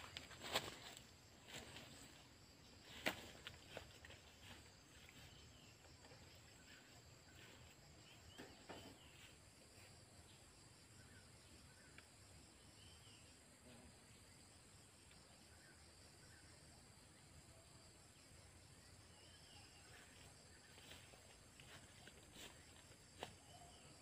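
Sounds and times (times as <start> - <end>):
faint bird chirps: 0.0 - 24.0
faint insect drone: 0.0 - 24.0.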